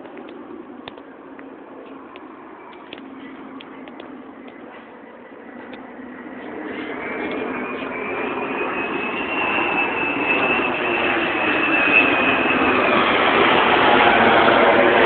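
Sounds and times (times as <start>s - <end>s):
high jet whine: 0.0s - 15.0s
jet airliner engine noise: 0.0s - 15.0s.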